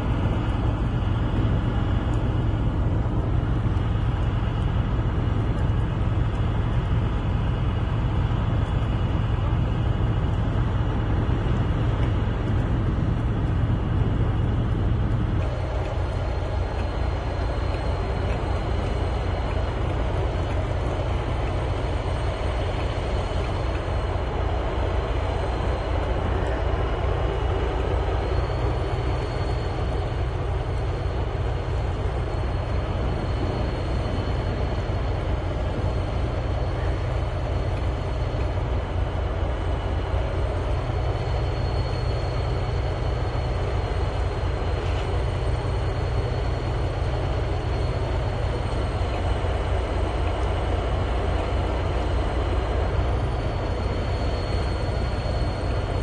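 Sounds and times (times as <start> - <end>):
faint high-pitched whines: 0.0 - 56.0
machinery low rumble: 0.0 - 56.0.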